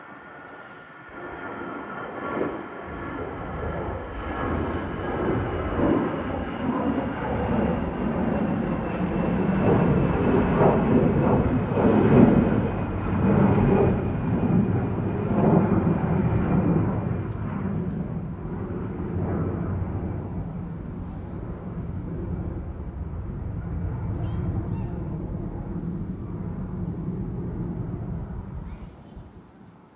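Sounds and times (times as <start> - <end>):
jet engines roaring: 0.0 - 29.9
high fan whine: 3.9 - 29.9.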